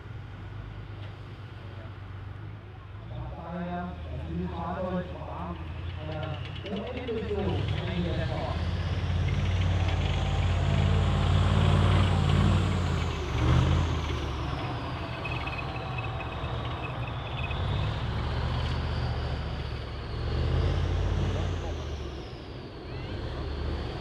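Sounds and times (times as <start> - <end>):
heavy vehicle engine running: 0.0 - 24.0.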